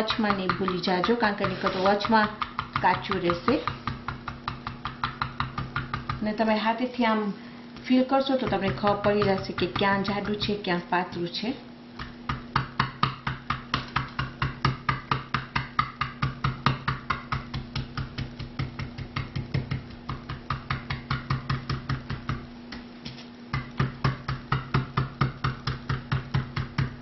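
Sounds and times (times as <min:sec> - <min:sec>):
meat pounding thuds on board: 0:00.0 - 0:06.3, 0:08.4 - 0:11.3, 0:12.0 - 0:22.9, 0:23.5 - 0:27.0
steady low hum: 0:00.0 - 0:27.0.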